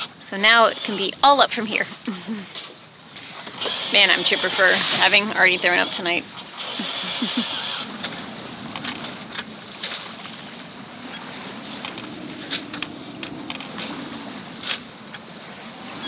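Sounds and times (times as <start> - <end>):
water rushing along hull: 0.0 - 16.0.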